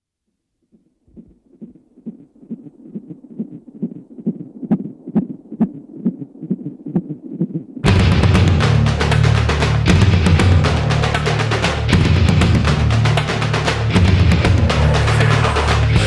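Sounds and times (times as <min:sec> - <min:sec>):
low heartbeat-like thumping: 0:01.1 - 0:16.0.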